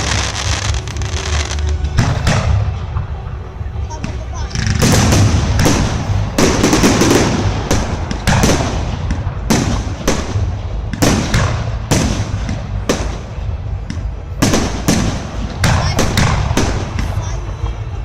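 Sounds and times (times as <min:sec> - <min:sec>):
continuous rumble: 0:00.0 - 0:18.0
fireworks bangs and crackles: 0:00.0 - 0:18.0.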